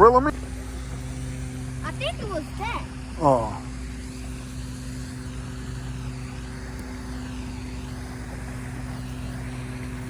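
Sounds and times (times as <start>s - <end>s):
motor droning: 0.0s - 10.0s.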